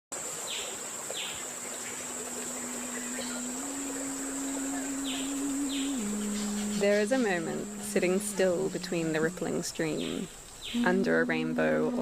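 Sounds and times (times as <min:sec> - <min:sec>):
high-pitched insect drone: 0:01.6 - 0:12.0
low held tone: 0:02.0 - 0:12.0.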